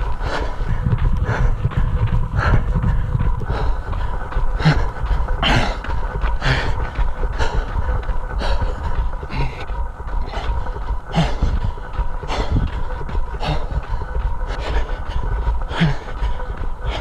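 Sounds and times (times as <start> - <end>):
heavy breathing: 0.0 - 17.0
wind rumbling on microphone: 0.0 - 17.0.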